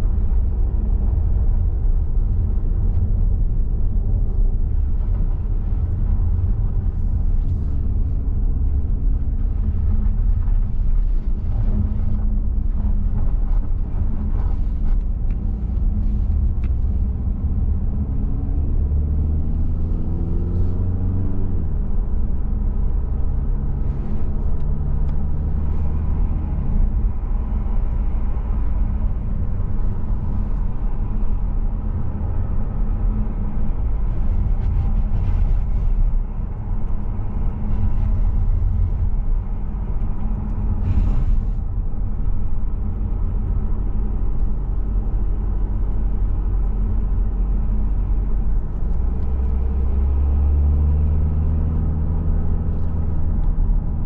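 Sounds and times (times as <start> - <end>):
car engine: 0.0 - 54.0
road rumble: 0.0 - 54.0.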